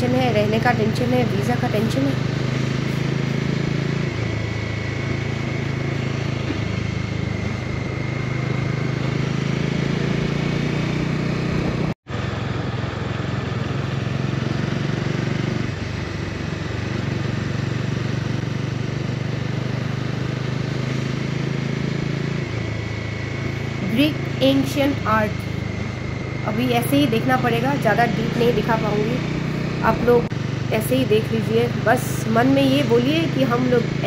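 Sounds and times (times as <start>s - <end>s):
motorcycle engine running: 0.0s - 34.0s
wind and road noise: 0.0s - 34.0s.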